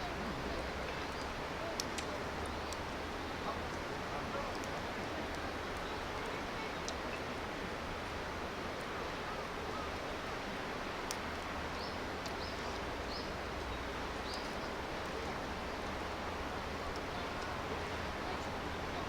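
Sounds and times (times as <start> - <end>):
campfire crackling: 0.0 - 19.0
river water rushing: 0.0 - 19.0.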